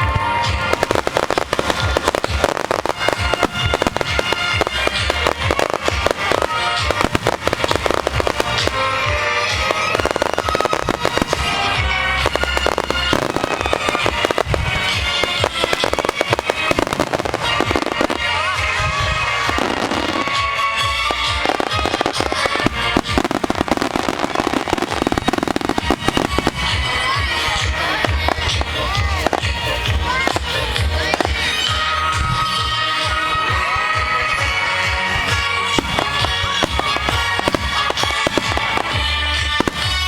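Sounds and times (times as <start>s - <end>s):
fireworks bursting and crackling: 0.0s - 40.0s
music playing: 0.0s - 40.0s.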